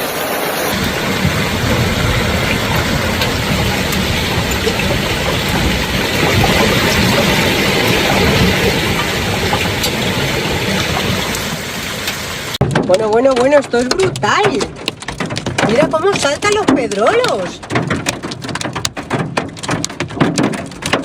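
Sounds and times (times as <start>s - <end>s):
hail and rain falling hard: 0.0s - 21.0s
hailstones clicking: 0.7s - 21.0s.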